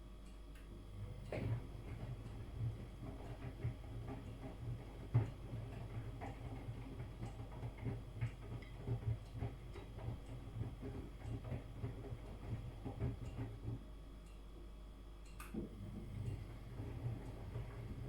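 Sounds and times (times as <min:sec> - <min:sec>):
washing machine motor hum: 0:00.0 - 0:18.0
wet laundry tumbling in drum: 0:01.0 - 0:13.9, 0:15.6 - 0:18.0.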